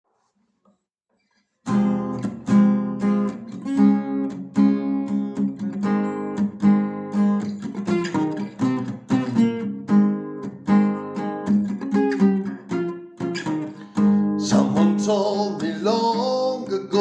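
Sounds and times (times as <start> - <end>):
acoustic guitar strumming: 1.7 - 17.0.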